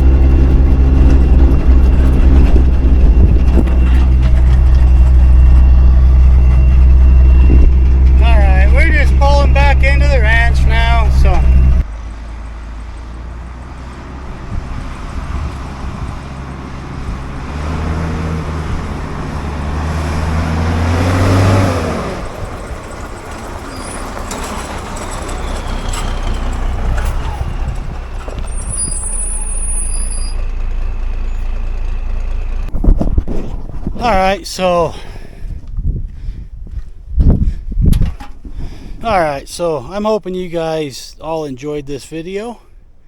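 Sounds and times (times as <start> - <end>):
road noise: 0.0 - 43.0
truck diesel engine running: 0.0 - 43.0.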